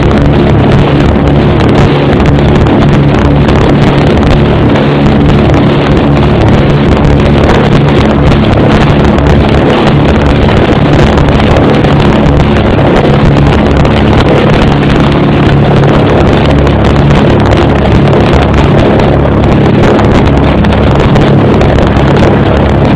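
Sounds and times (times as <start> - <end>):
piston aircraft engines droning: 0.0 - 22.9
rushing air noise: 0.0 - 22.9.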